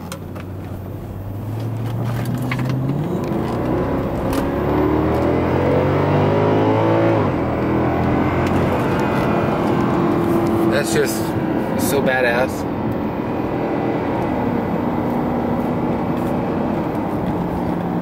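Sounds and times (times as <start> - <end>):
car engine accelerating hard: 0.4 - 18.0.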